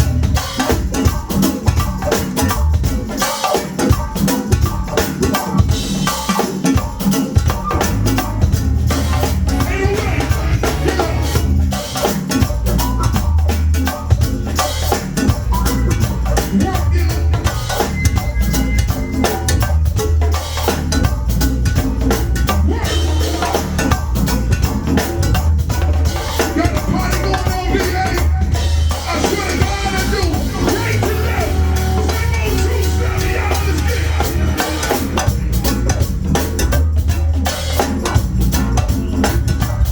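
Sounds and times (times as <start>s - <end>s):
heavy bass line: 0.0s - 3.2s, 6.8s - 39.9s
drum kit and percussion groove: 0.0s - 39.9s.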